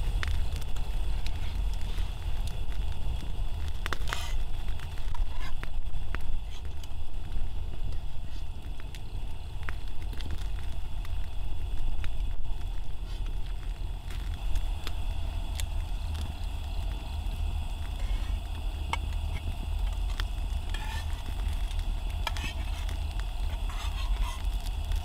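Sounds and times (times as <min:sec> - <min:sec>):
fire low rumble: 0:00.0 - 0:25.0
wood fire crackling and popping: 0:00.0 - 0:25.0.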